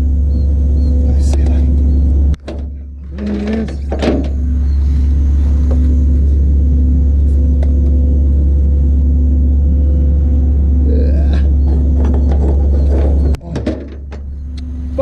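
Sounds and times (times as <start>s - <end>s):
faint steady whine: 0.0s - 15.0s
truck engine running: 0.0s - 15.0s.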